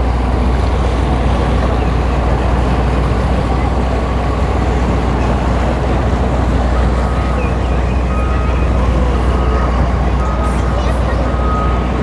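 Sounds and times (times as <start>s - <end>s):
outboard motor rumbling: 0.0s - 12.0s.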